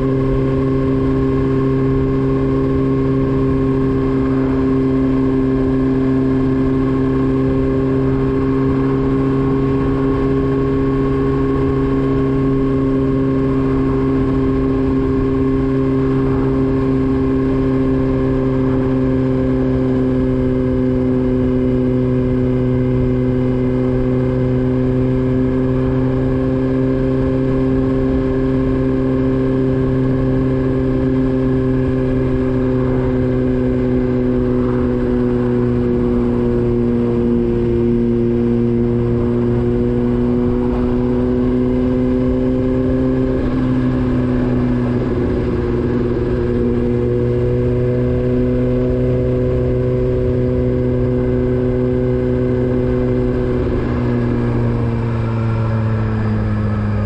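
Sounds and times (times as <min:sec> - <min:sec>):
low rumbling noise: 0:00.0 - 0:57.0
motorcycle engine cruising: 0:00.0 - 0:57.0.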